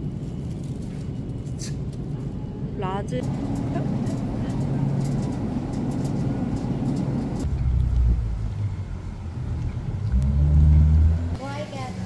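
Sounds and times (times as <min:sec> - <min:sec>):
steady low hum: 0:00.0 - 0:10.2
car rumble and road traffic: 0:02.3 - 0:12.0.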